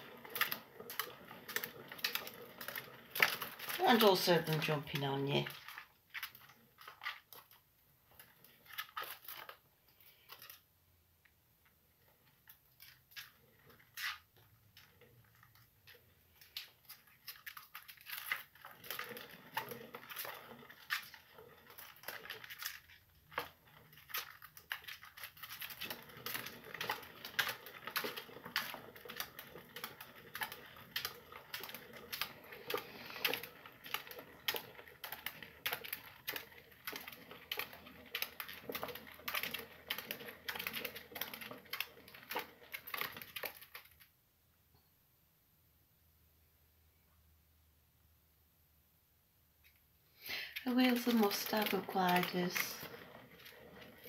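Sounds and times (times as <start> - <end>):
feet clattering on exercise wheel: 0.0 - 9.6, 12.1 - 44.0, 50.3 - 54.0
exercise wheel turning: 0.0 - 10.7, 11.6 - 44.2, 50.1 - 54.0.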